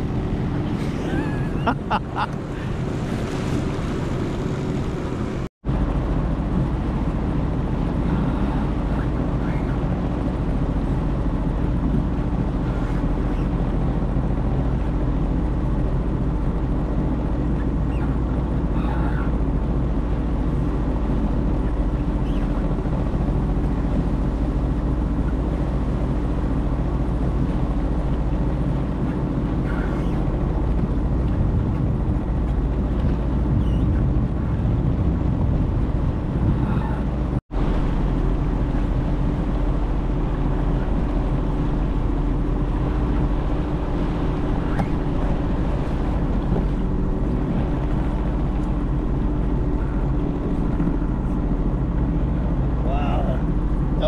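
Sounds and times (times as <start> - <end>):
personal watercraft engine humming: 0.0 - 54.0
water noise: 0.0 - 54.0.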